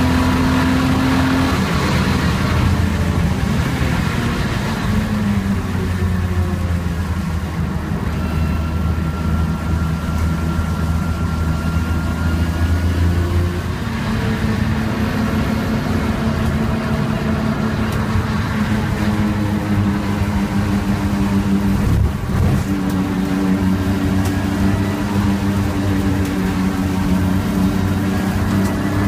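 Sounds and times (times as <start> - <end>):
race car engine: 0.0 - 29.0
tyre and road noise: 0.0 - 29.0.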